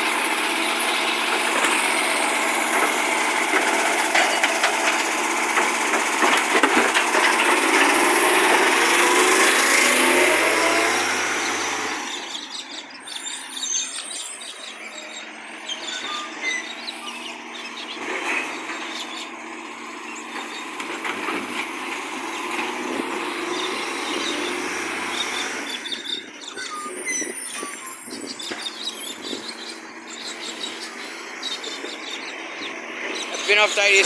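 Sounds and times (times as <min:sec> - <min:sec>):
garbage truck engine with exhaust leak: 0:00.0 - 0:34.0.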